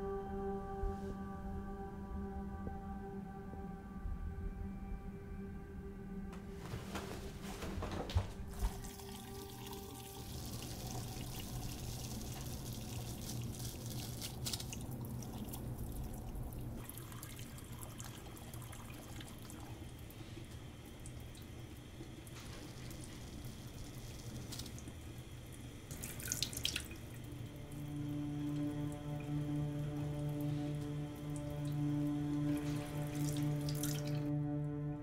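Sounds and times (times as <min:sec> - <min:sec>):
quiet background music: 0:00.0 - 0:35.0.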